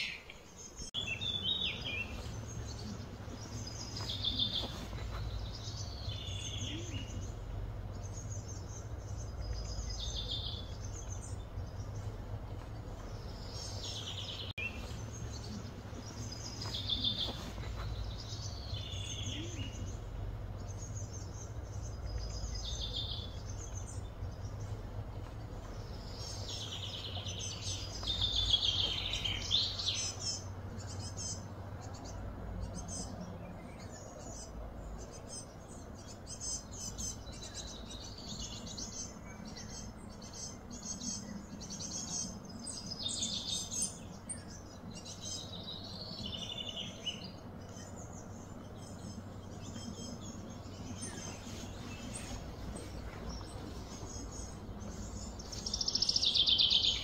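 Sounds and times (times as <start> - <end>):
wild birds calling: 0.0 - 57.0
steady low rumble: 0.6 - 57.0.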